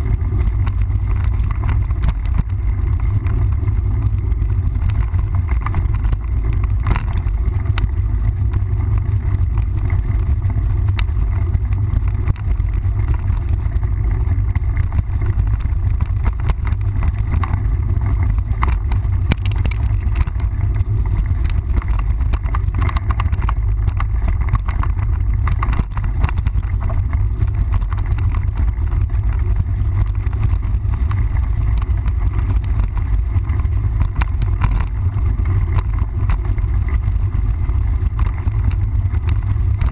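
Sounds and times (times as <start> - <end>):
bike clicks and rattles: 0.0 - 39.9
wind buffeting microphone: 0.0 - 39.9.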